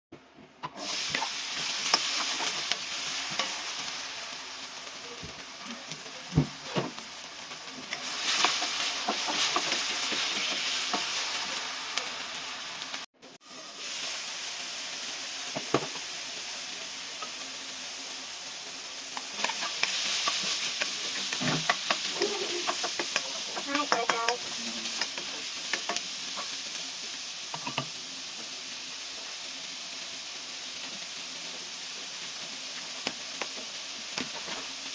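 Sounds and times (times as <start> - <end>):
food sizzling in a frying pan: 0.6 - 34.9.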